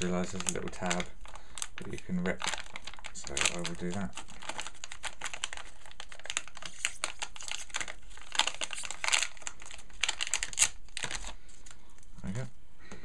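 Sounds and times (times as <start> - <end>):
plastic bag ripping and crinkling: 0.0 - 11.4.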